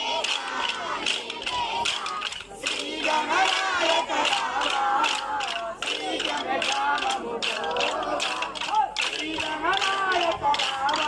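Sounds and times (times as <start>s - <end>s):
dance sticks clacking: 0.0s - 11.0s
group singing folk song: 0.0s - 11.0s.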